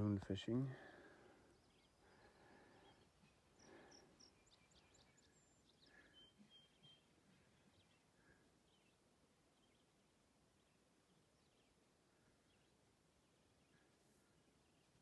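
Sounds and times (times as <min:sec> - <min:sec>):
faint songbird chirps: 0:00.0 - 0:15.0.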